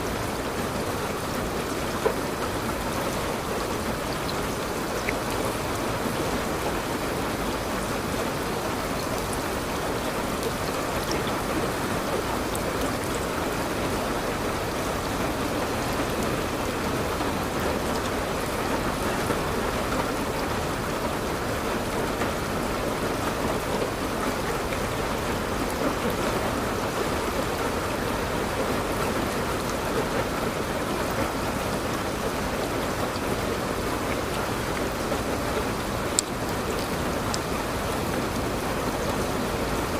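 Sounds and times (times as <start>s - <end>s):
steady rain falling: 0.0s - 39.9s
faint raindrop ticks: 0.1s - 39.9s.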